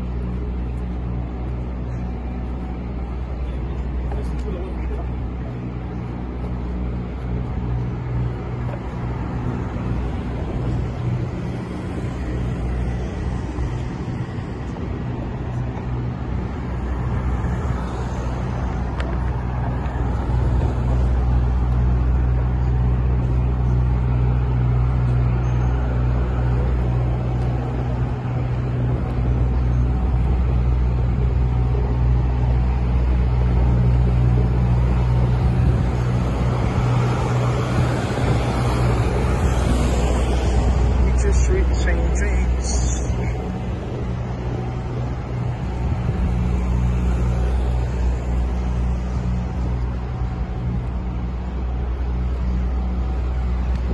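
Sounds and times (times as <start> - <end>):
city street traffic: 0.0 - 53.9.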